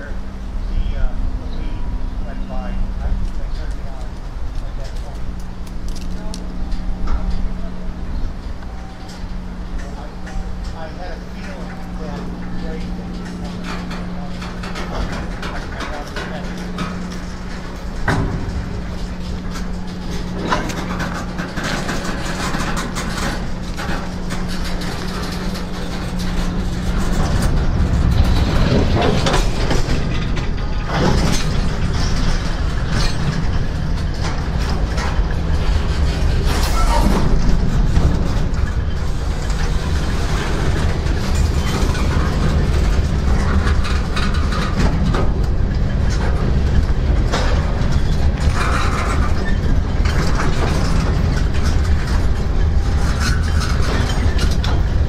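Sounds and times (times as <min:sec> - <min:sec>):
train rumble: 0:00.0 - 0:55.0
train wheels clicking on rails: 0:02.1 - 0:55.0.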